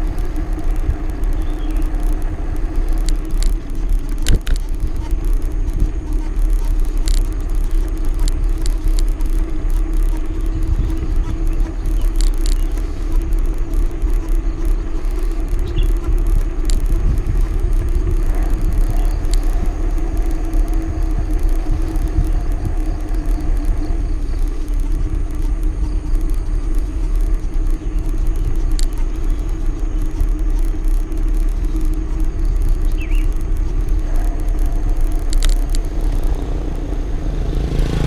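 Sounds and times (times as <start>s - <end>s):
engine hum: 0.0s - 38.0s
faint ticks: 0.0s - 38.0s
road vehicle rumbling: 0.0s - 38.0s.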